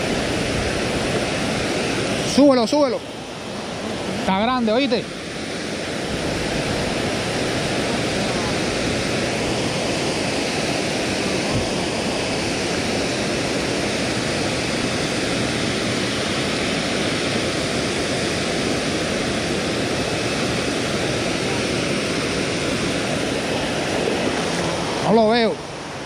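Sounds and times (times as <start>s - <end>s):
water rushing over spillway: 0.0s - 26.0s.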